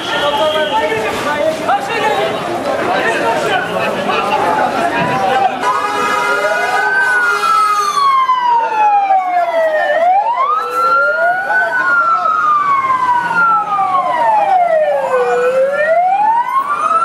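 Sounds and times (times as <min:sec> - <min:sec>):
fire engine sirens wailing: 0:03.0 - 0:17.0.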